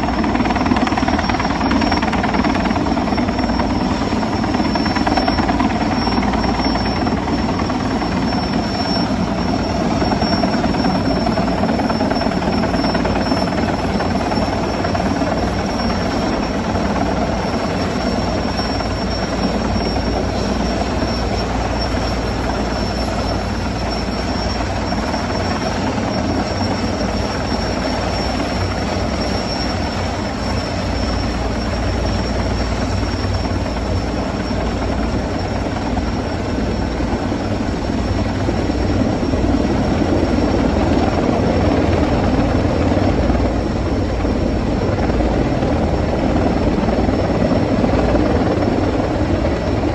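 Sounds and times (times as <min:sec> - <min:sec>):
helicopter rotor and turbine noise: 0:00.0 - 0:49.9
thin high whine: 0:00.0 - 0:49.9.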